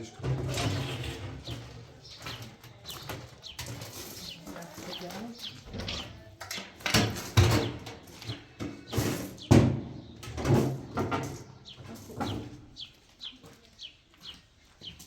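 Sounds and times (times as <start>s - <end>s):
knocks and scrapes: 0.1s - 12.6s.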